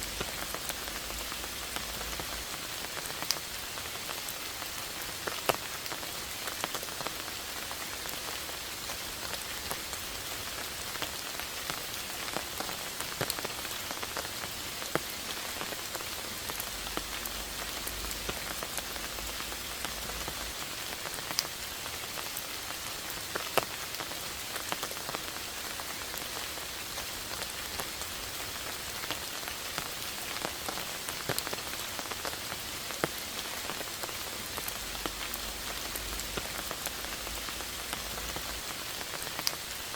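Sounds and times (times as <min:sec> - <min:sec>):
raindrops ticking close by: 0:00.0 - 0:39.9
steady rain hiss: 0:00.0 - 0:39.9.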